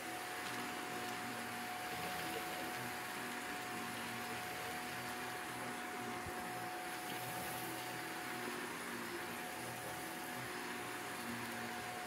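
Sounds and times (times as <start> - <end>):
upright vacuum cleaner running: 0.0 - 12.0.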